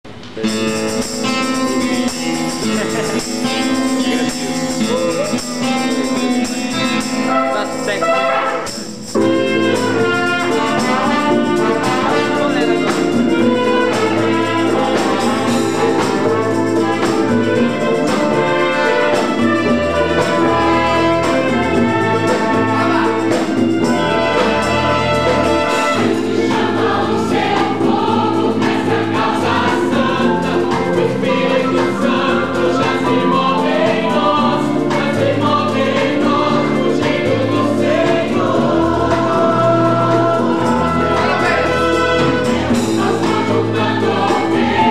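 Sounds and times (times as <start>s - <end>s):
choir singing gospel: 0.4s - 44.9s
brass band playing: 0.8s - 44.9s.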